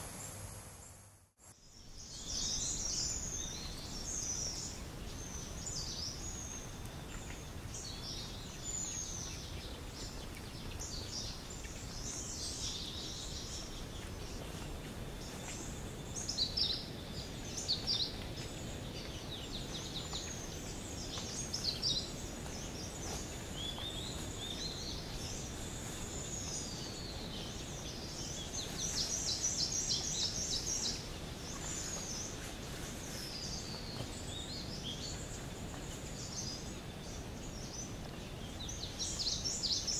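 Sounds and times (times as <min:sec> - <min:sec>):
outdoor background hiss: 0:00.0 - 0:39.9
birds chirping and singing: 0:01.8 - 0:39.9.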